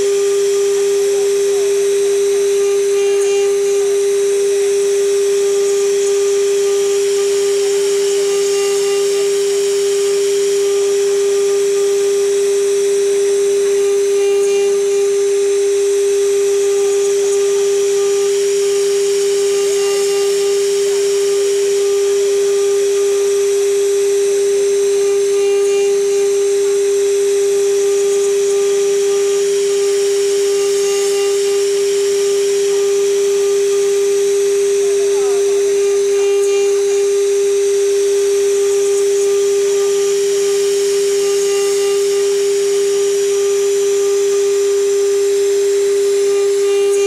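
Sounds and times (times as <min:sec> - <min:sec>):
engraving bit cutting wood: 0:00.0 - 0:47.0
router spindle whining: 0:00.0 - 0:47.0.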